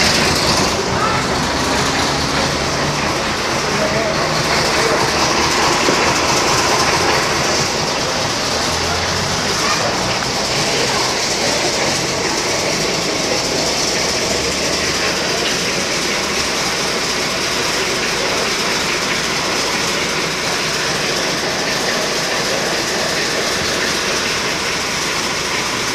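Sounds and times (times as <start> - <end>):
bus body rattling: 0.0 - 25.9
bus diesel engine running: 0.0 - 25.9.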